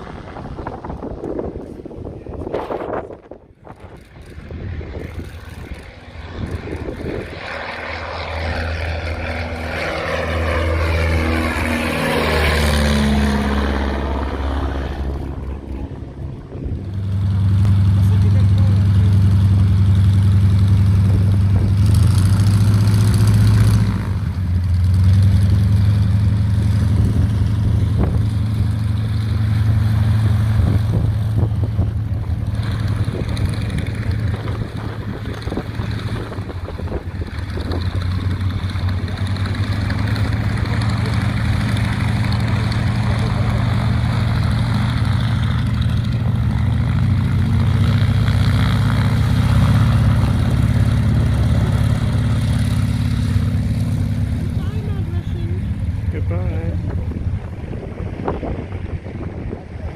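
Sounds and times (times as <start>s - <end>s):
propeller aircraft engine droning: 0.0s - 59.9s.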